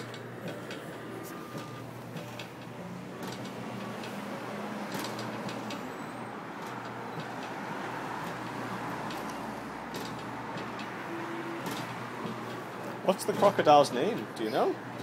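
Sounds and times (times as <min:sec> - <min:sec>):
mechanism clicks and knocks: 0:00.0 - 0:05.8, 0:06.5 - 0:11.0, 0:11.6 - 0:14.4
kiddie ride motor humming: 0:00.0 - 0:15.0.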